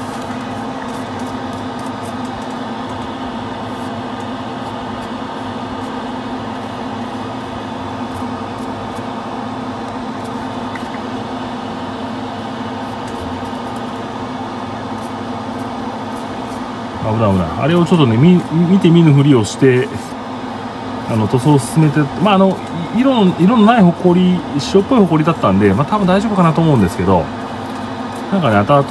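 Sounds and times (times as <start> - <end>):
extractor fan motor hum: 0.0 - 28.9.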